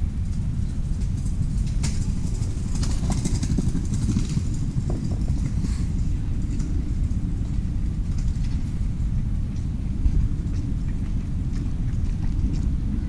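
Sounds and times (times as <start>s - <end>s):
low outdoor rumble: 0.0s - 13.0s
faint clicks and rustles: 0.2s - 13.0s.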